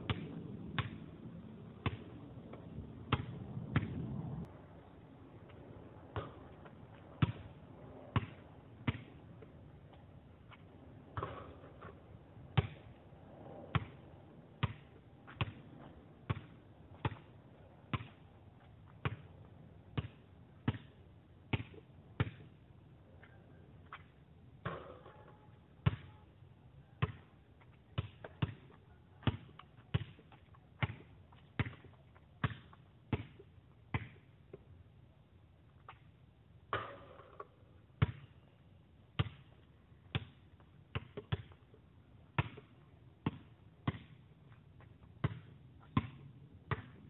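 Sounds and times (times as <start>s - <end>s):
basketball bouncing on asphalt: 0.0s - 4.2s, 5.4s - 22.6s, 23.2s - 34.8s, 35.7s - 47.0s.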